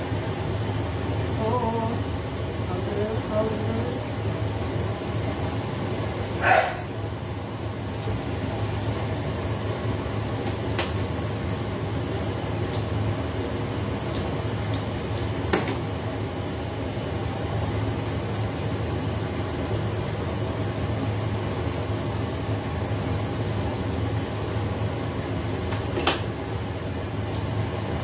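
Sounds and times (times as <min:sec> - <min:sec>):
fan humming: 0:00.0 - 0:28.0.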